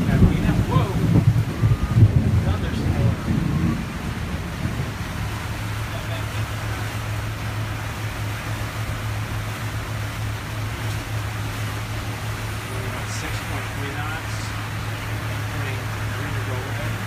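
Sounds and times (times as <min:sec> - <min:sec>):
motorboat engine drone: 0:00.0 - 0:17.0
rain hiss: 0:00.0 - 0:17.0
wind: 0:00.0 - 0:17.0.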